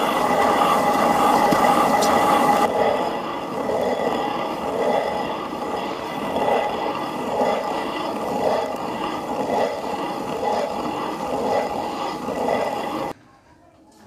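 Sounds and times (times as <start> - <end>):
stone hand mill grinding: 0.0 - 13.2.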